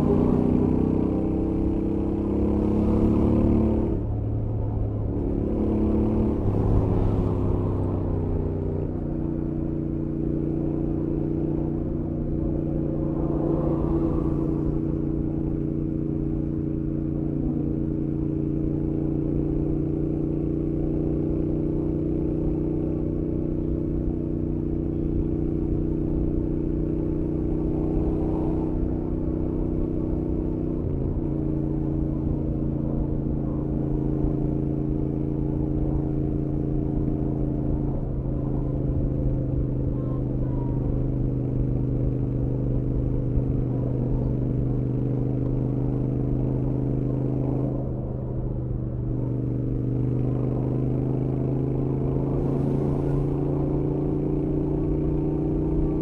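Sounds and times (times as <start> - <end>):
motorcycle engine at cruising speed: 0.0 - 56.0.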